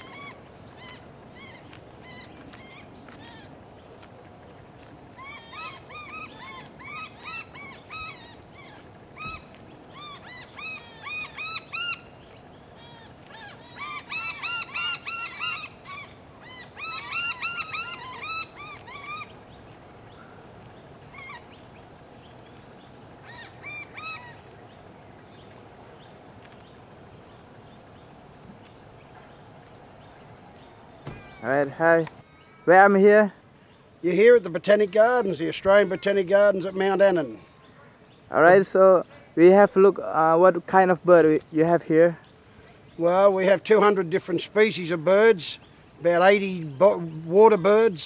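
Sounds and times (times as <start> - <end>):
bird calling: 0.0 - 40.4, 41.6 - 48.0
steady high hiss: 0.0 - 48.0.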